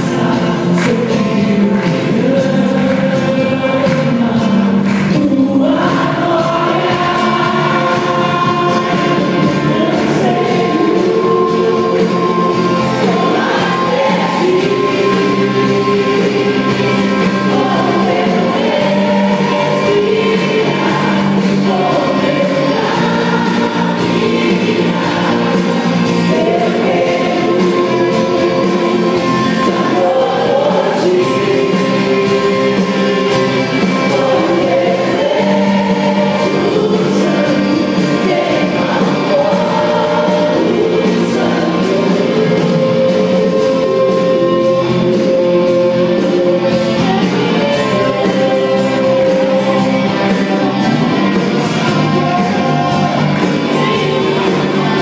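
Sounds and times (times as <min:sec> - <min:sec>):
voices singing worship music: 0:00.0 - 0:55.0.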